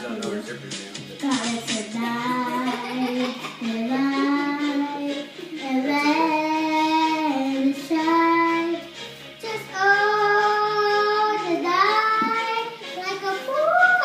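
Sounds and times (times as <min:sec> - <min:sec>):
backing track music: 0:00.0 - 0:14.0
girl singing karaoke: 0:01.2 - 0:14.0.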